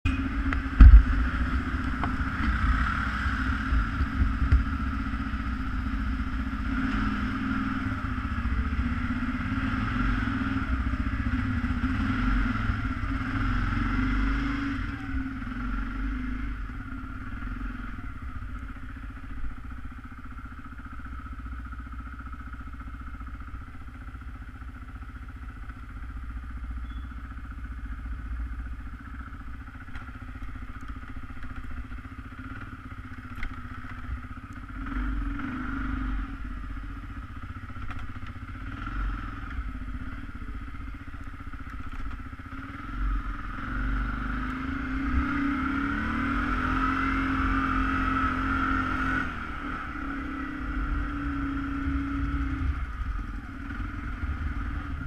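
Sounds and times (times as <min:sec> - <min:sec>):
vehicle rattling and clatter: 0:00.0 - 0:36.0, 0:36.6 - 0:55.0
atv engine running: 0:00.0 - 0:55.0.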